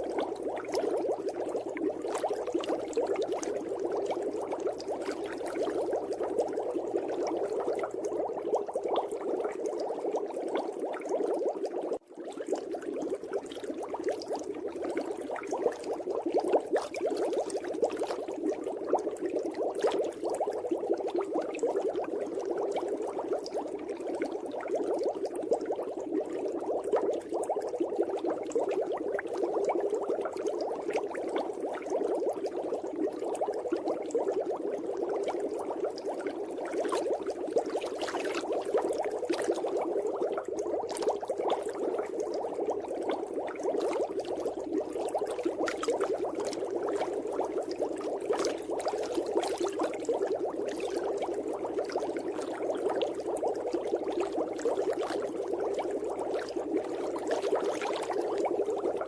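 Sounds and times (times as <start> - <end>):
water bubbling: 0.0 - 59.0.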